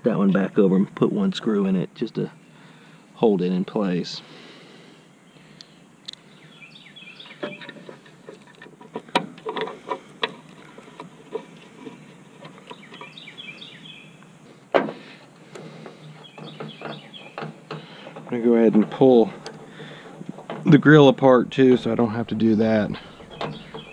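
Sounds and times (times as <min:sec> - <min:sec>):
birds chirping faintly: 0:00.0 - 0:23.9.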